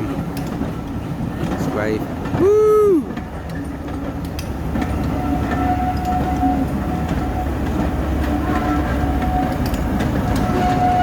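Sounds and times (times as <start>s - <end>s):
train coaches rolling on rails: 0.0s - 11.0s.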